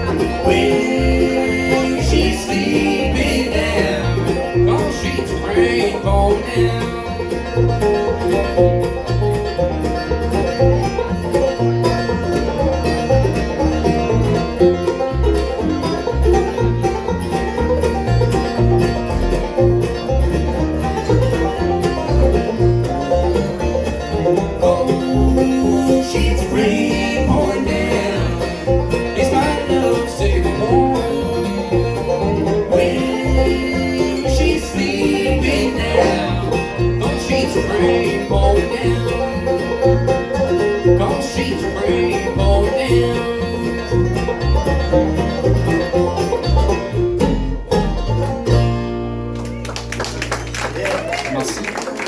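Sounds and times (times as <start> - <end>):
plodding bass line: 0.0 - 49.7
banjo picking: 0.0 - 51.1
guitar: 0.0 - 52.0.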